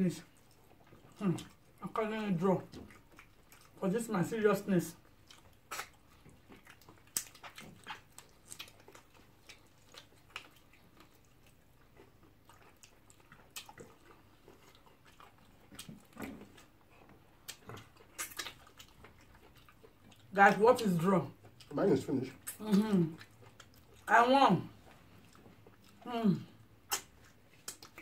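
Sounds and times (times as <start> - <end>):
mouth smacks and chewing: 0.2 - 3.8, 4.9 - 20.6, 21.3 - 24.1, 24.7 - 28.0.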